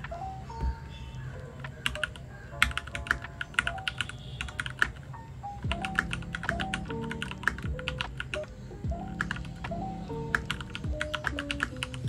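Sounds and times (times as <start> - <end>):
background music: 0.0 - 12.0
mechanical keyboard typing: 1.6 - 12.0.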